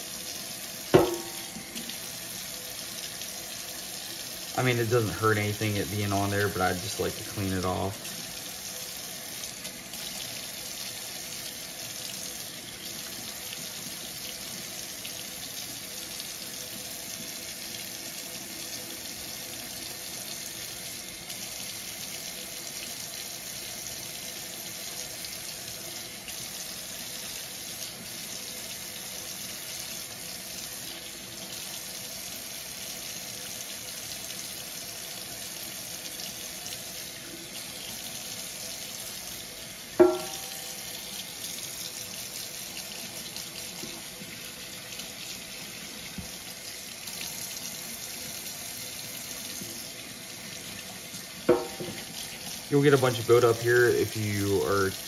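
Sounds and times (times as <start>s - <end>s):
faucet running into metal sink: 0.0s - 55.0s.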